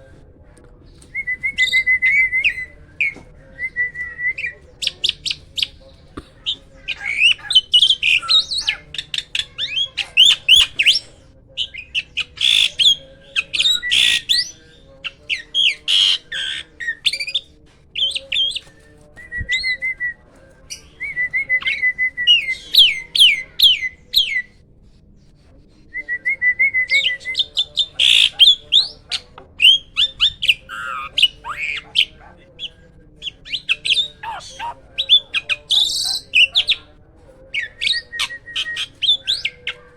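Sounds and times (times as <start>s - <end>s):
starling singing: 0.8s - 24.6s, 26.0s - 39.9s.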